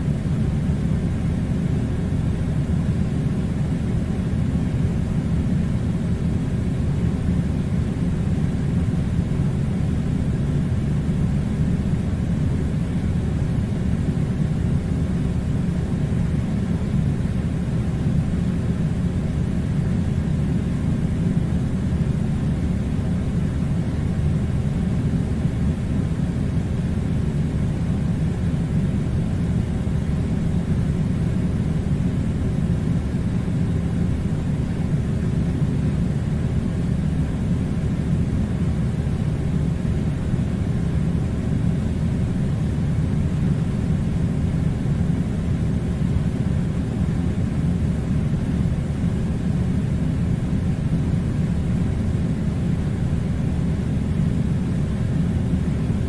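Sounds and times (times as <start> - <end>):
air conditioner rumble: 0.0 - 56.0.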